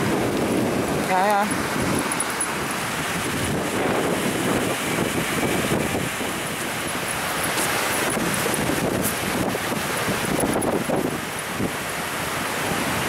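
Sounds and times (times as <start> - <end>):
water rushing down a water feature: 0.0 - 13.0
wind on microphone: 0.0 - 13.0.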